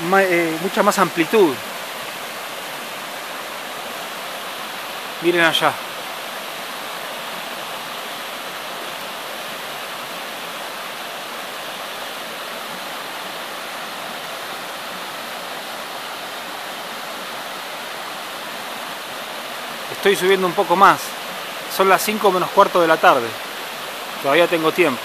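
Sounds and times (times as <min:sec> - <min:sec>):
stream cascading over rocks: 0:00.0 - 0:25.0.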